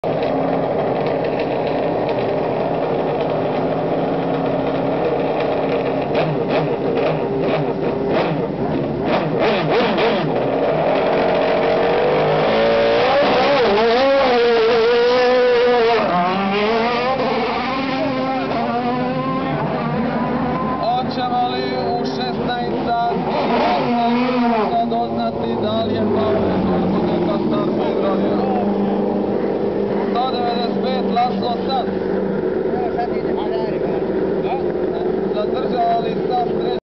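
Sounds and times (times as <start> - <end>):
engine throttle blips: 0.0 - 36.8
race car engine revving: 0.0 - 36.8.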